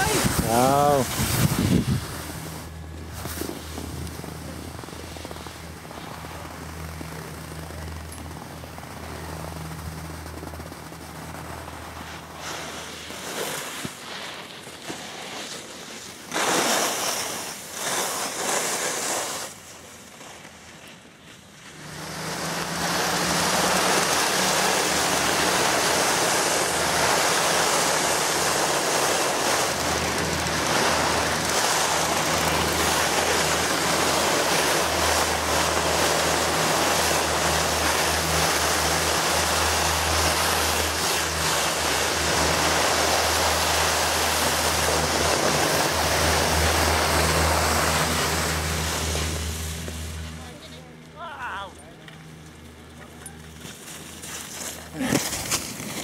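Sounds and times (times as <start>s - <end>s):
wind and snow rushing: 0.0s - 7.6s, 8.4s - 50.5s.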